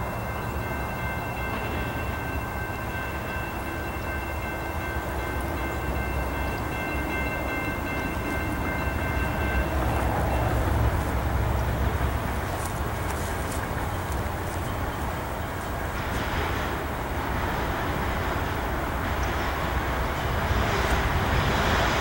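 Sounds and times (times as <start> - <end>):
locomotive rumble: 0.0 - 22.0.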